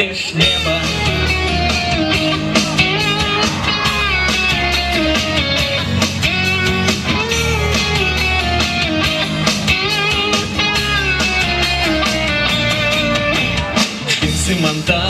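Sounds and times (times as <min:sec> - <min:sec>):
bass guitar: 0:00.0 - 0:15.0
lead guitar with bent notes: 0:00.0 - 0:15.0
steady drum beat: 0:00.4 - 0:15.0.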